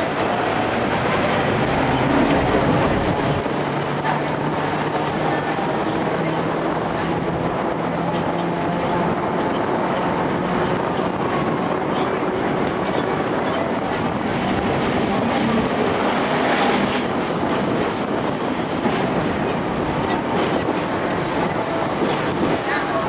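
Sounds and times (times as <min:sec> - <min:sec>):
tram rumbling: 0:00.0 - 0:23.0
wheels clicking on rails: 0:00.0 - 0:23.0
wind noise: 0:00.0 - 0:23.0.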